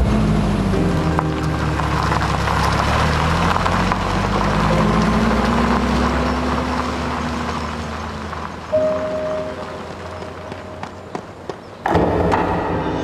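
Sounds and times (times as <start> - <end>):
car engine driving off: 0.0 - 11.8
tyres on dirt road: 0.0 - 13.0.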